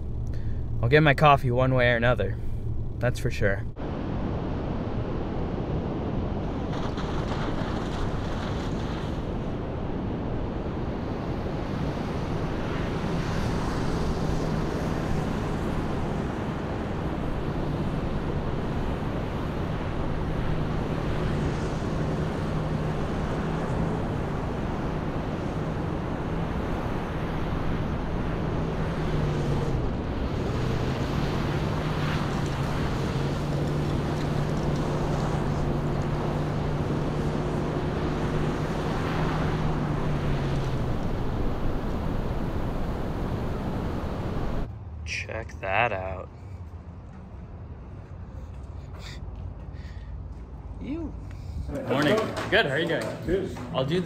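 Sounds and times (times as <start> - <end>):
low engine hum: 0.0 - 54.0
road and wind noise: 0.0 - 54.0.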